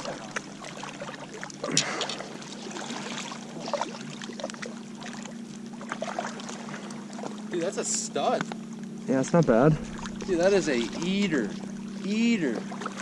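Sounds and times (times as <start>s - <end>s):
water lapping on rocks: 0.0s - 8.4s, 9.4s - 13.0s.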